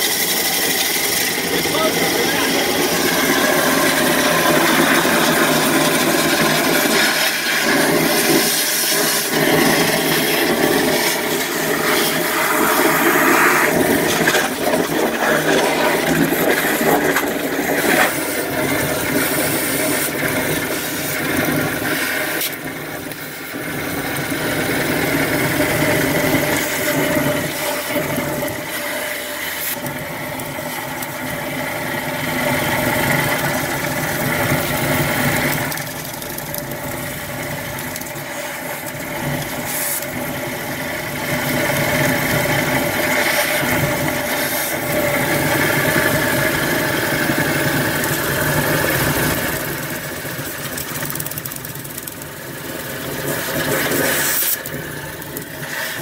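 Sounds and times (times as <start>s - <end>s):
engine running: 0.0s - 56.0s
high-pressure water jet rushing: 0.0s - 56.0s.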